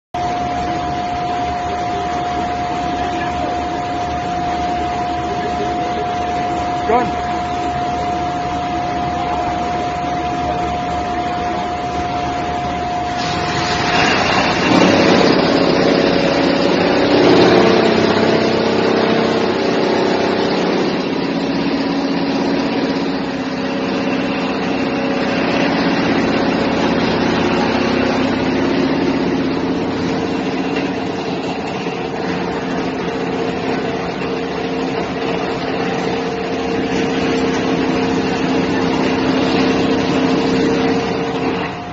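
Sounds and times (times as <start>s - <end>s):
electric cutter machine humming: 0.2s - 41.9s.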